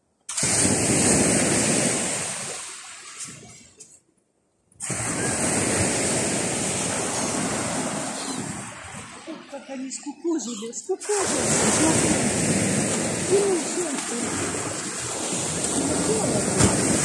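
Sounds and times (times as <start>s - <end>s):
surf washing onto beach: 0.3s - 3.6s, 4.8s - 9.8s, 11.0s - 17.0s.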